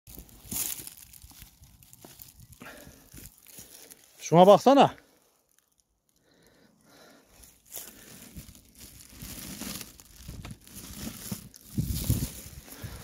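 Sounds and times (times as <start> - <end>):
plastic bag crinkling: 0.1 - 4.2, 5.4 - 6.4, 7.5 - 13.0
footsteps on dry leaves and stones: 0.1 - 4.5, 7.0 - 13.0.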